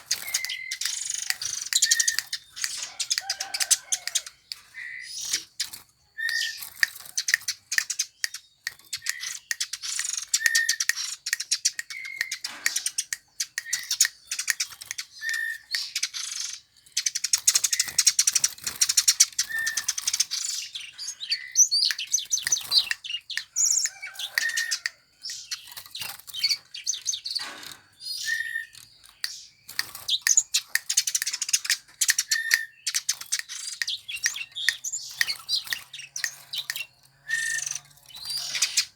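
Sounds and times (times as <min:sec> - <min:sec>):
sparrow chirping: 0:00.0 - 0:38.9.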